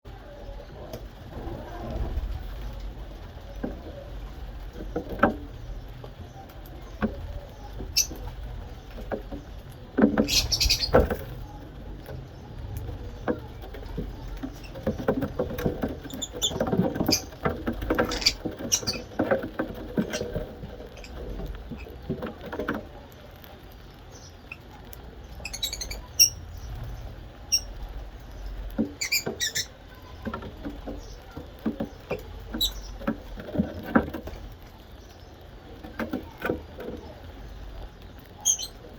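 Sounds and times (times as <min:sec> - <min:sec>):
birds pecking at a dish: 0:00.1 - 0:38.9
scratching and rustling: 0:00.1 - 0:38.9.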